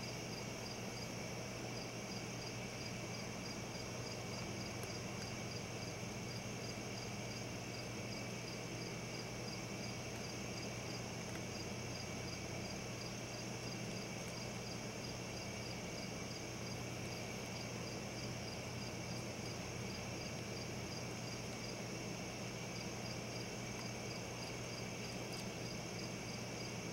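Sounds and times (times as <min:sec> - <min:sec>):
crickets chirping: 0:00.0 - 0:26.9
low steady hum: 0:00.0 - 0:26.9.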